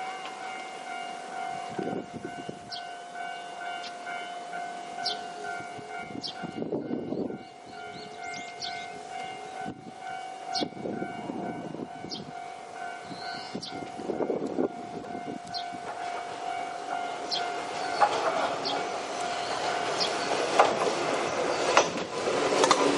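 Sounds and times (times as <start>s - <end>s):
level crossing alarm ringing: 0.0s - 21.7s
train rumble: 0.0s - 22.9s.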